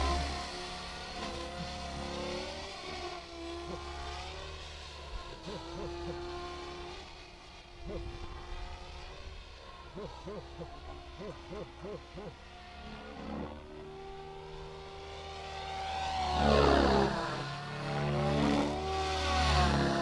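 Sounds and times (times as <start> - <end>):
rc helicopter motor whine: 0.0 - 20.0.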